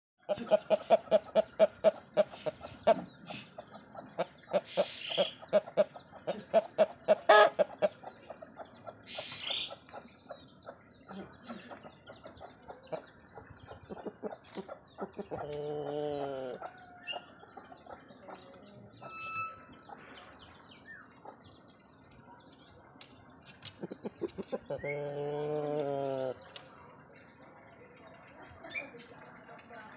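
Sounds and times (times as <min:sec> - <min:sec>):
chickens clucking: 0:00.2 - 0:29.6.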